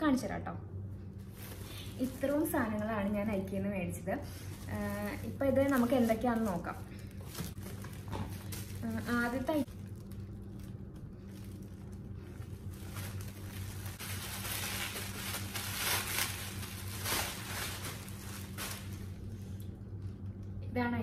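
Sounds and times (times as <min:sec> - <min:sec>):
low steady hum: 0:00.0 - 0:21.0
plastic wrapping crinkling: 0:01.2 - 0:03.6, 0:04.2 - 0:20.6.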